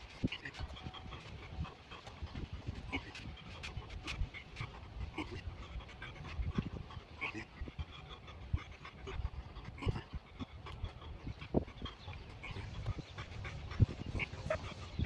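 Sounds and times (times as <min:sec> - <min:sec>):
man panting hard: 0:00.0 - 0:15.0.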